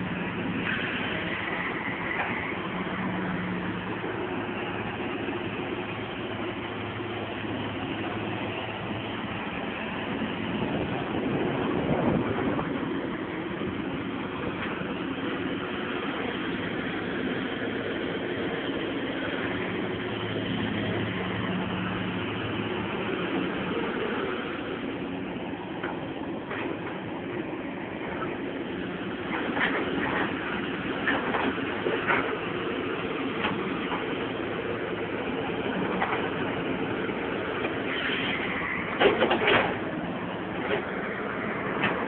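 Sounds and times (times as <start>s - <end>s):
diesel engine droning: 0.0s - 42.0s.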